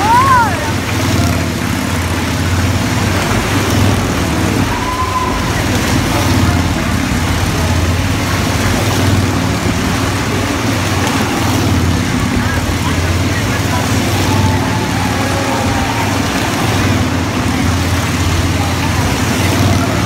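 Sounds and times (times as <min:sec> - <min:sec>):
motorcycle engine drone: 0:00.0 - 0:20.0.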